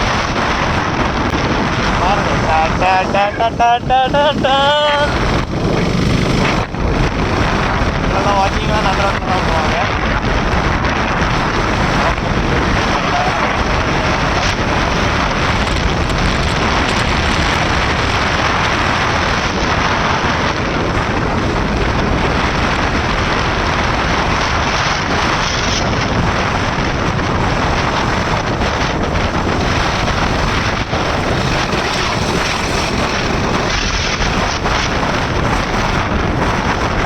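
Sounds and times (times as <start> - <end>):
wind rushing on microphone: 0.0 - 37.0.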